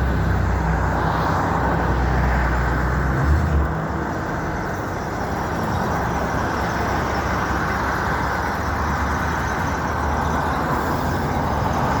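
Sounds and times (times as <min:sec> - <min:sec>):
motor vehicle rumble and hiss: 0:00.0 - 0:12.0.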